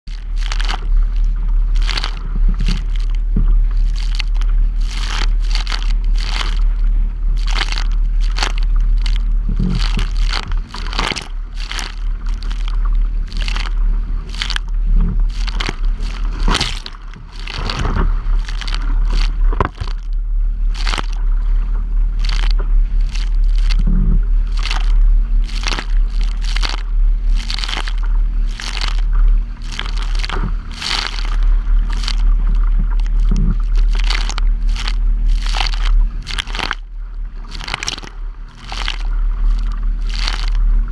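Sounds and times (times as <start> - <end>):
wind rumble on microphone: 0.0 - 40.9
waves slapping plastic kayak: 0.2 - 36.8.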